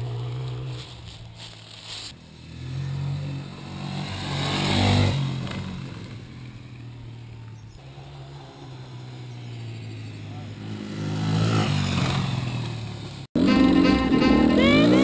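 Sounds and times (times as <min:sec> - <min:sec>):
motorcycle passing by: 0:00.0 - 0:15.0.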